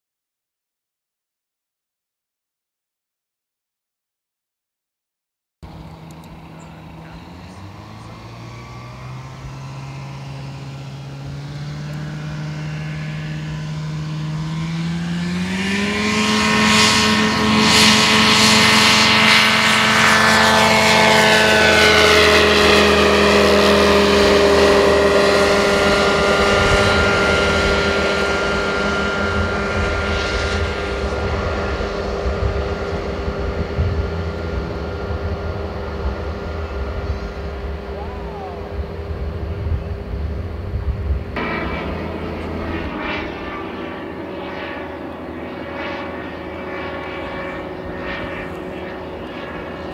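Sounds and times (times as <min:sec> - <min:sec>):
ultralight plane engine and propeller: 0:05.6 - 0:49.9.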